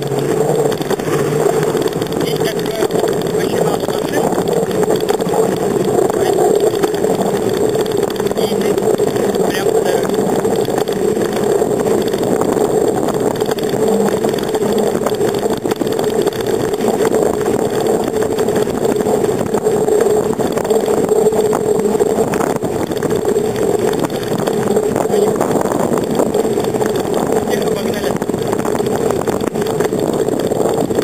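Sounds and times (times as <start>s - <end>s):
bicycle jolts on bumps: 0.0s - 31.0s
road noise: 0.0s - 31.0s
wind rushing: 0.0s - 31.0s.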